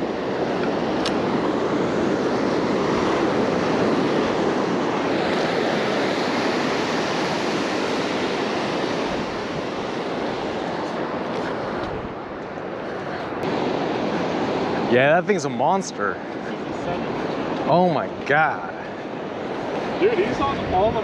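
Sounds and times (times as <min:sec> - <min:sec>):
wind rumbling on microphone: 0:00.0 - 0:14.9, 0:16.2 - 0:21.0
ocean surf breaking: 0:00.0 - 0:21.0.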